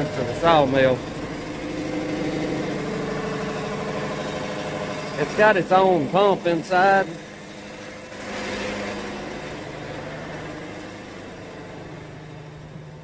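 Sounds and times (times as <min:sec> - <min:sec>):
sawmill engine idling: 0:00.0 - 0:13.0.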